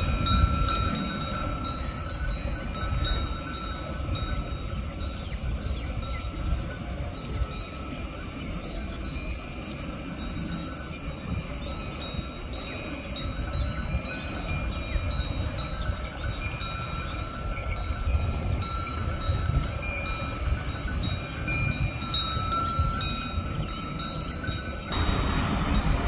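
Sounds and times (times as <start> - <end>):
chime-like ringing tones: 0.0 - 26.0
running water and turning gear: 0.0 - 26.0.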